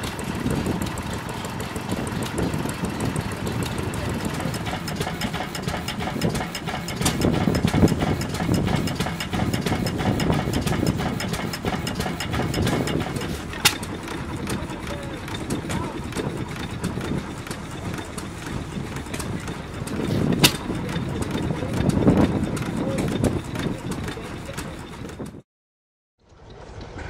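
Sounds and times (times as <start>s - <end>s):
stationary engines running: 0.0s - 25.4s.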